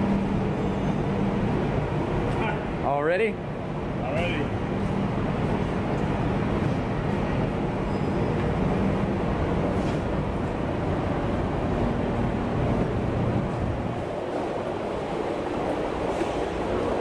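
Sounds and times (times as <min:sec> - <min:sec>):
ferry machinery rumble and hum: 0:00.0 - 0:17.0.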